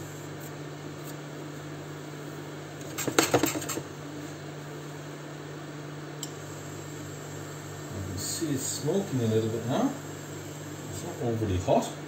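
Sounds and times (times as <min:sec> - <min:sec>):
induction hob hum: 0:00.0 - 0:12.0.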